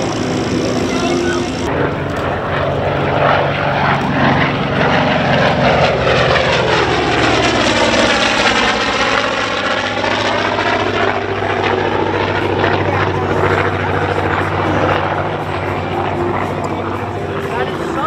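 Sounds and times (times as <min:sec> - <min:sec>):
propeller aircraft flying by: 0:00.0 - 0:18.0.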